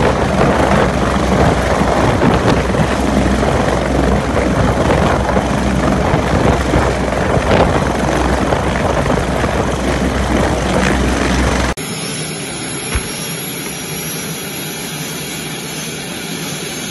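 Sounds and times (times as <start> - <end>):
helicopter engine and rotors: 0.0 - 16.9.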